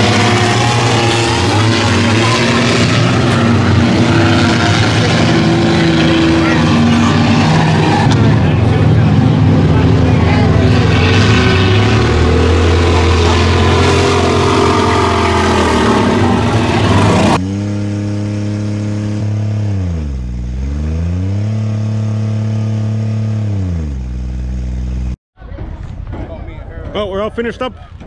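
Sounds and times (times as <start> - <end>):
race cars running together: 0.0 - 25.2.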